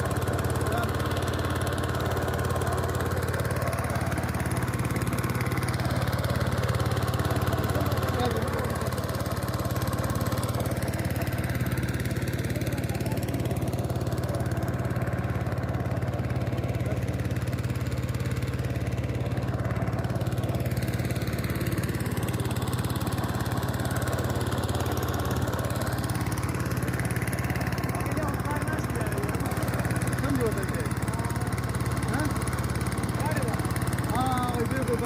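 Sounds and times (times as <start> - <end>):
small boat engine droning: 0.0 - 35.0.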